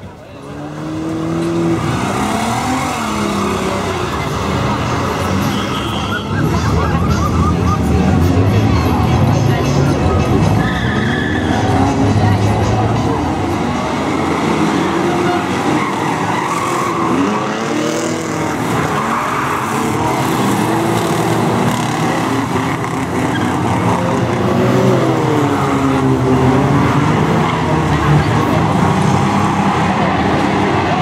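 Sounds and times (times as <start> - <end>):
several car engines revving: 0.0 - 31.0.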